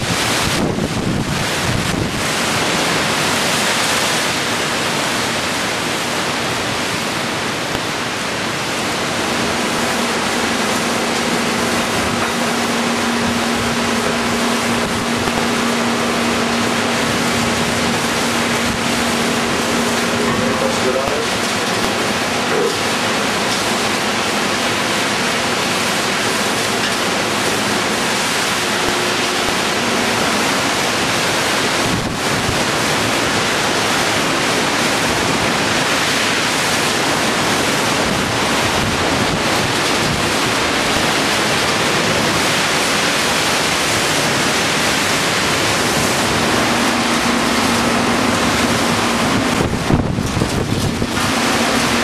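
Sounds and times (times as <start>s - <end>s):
heavy rain: 0.0s - 52.0s
hurricane wind: 0.0s - 52.0s.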